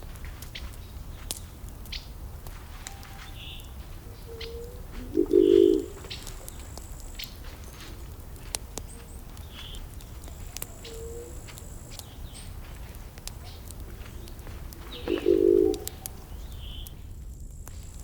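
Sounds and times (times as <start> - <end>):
burning wood crackling and popping: 0.0 - 18.0
bird low call: 1.9 - 17.0.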